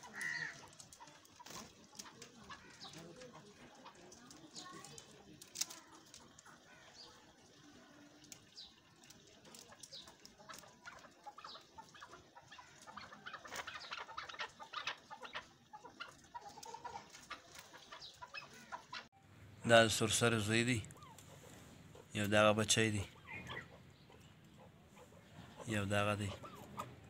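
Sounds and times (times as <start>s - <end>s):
partridges clucking and chirping: 0.0s - 27.0s.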